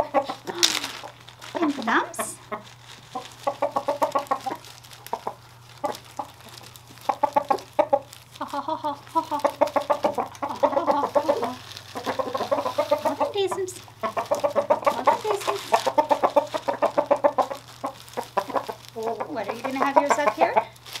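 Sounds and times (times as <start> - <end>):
roosters clucking: 0.0 - 21.0.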